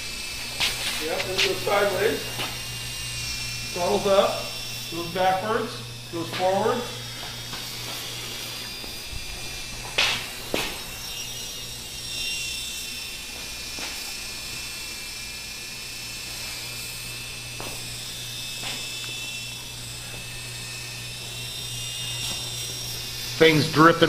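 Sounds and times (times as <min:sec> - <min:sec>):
small helicopter rotors whining: 0:00.0 - 0:24.0.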